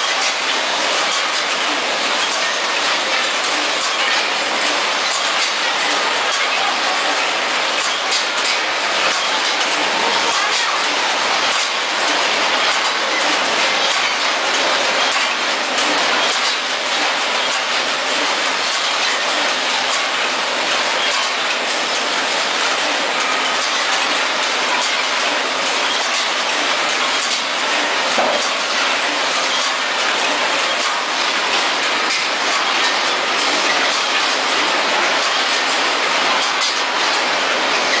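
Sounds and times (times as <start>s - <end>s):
packaging machine clattering: 0.0s - 38.0s.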